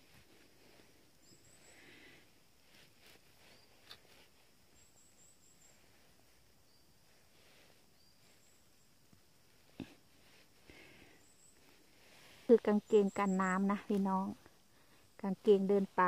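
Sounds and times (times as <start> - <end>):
gloved hands rustling in moss: 0.0 - 16.0.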